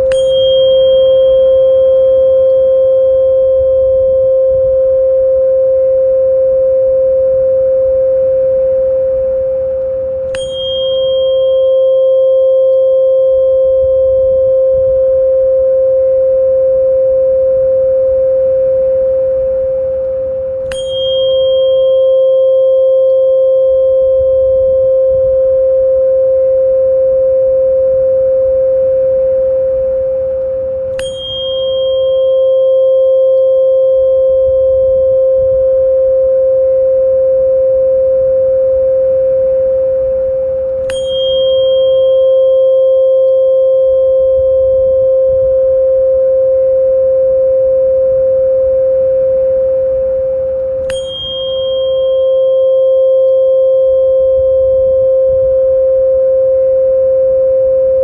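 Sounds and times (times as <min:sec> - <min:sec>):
steady electronic pure tone: 0:00.0 - 0:58.0.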